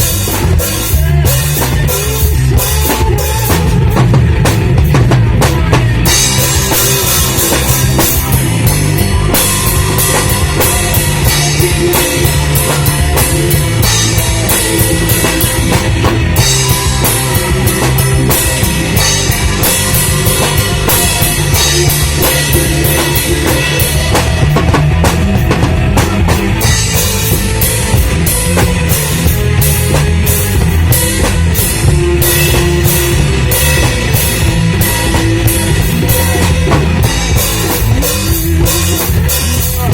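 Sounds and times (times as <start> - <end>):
rock music with drum kit: 0.0 - 39.9.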